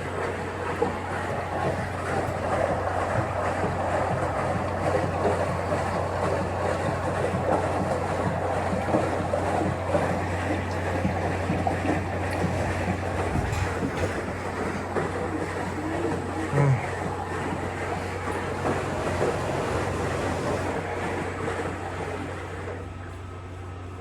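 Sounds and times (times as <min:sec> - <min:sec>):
constant low hum: 0:00.0 - 0:24.0
washing machine churning: 0:00.0 - 0:24.0.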